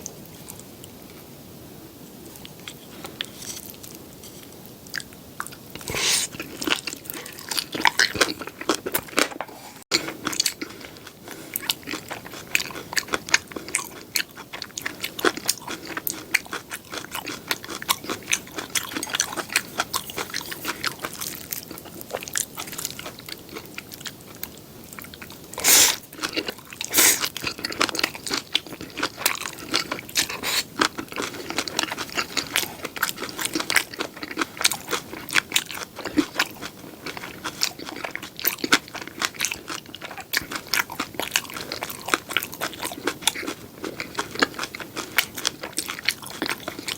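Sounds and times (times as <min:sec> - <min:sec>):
crunchy eating: 0:02.2 - 0:46.9
wet chewing: 0:02.4 - 0:46.9.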